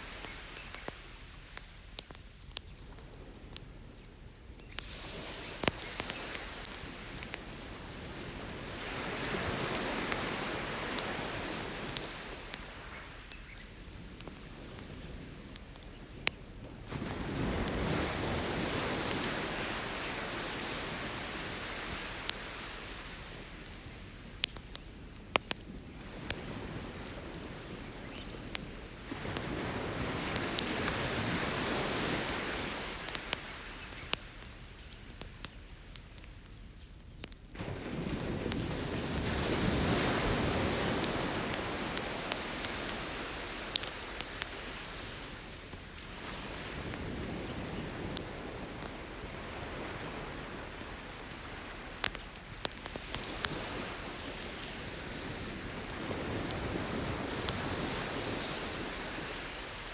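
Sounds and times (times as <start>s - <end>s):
campfire crackling: 0.0s - 59.9s
ocean waves washing ashore: 4.8s - 35.3s, 37.6s - 59.9s.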